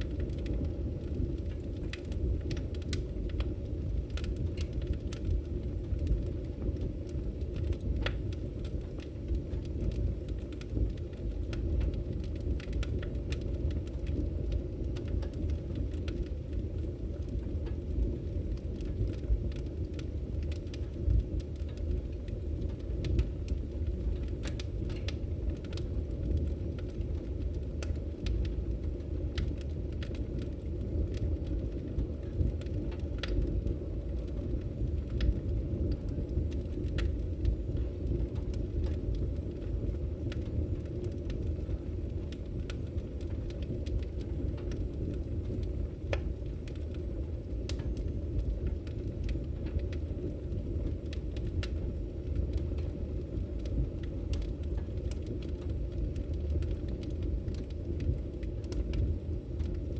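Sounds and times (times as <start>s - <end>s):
burning wood crackling and popping: 0.0s - 59.9s
flames rumbling: 0.0s - 59.9s.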